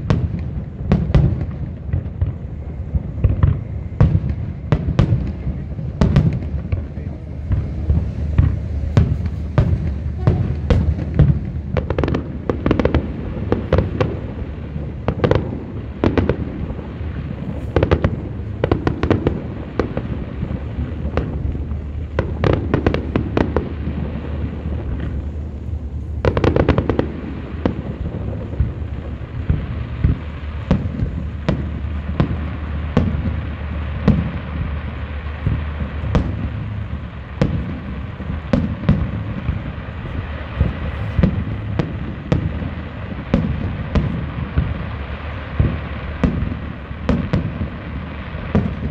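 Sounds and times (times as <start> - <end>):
fireworks bangs: 0.0 - 48.9
low rumble: 0.0 - 48.9.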